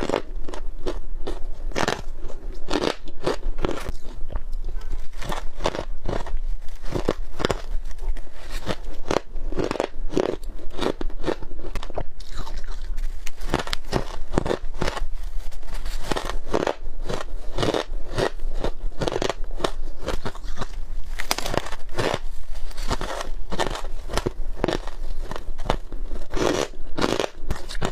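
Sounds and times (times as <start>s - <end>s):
chewing crunchy ice: 0.0s - 15.1s, 16.0s - 27.9s.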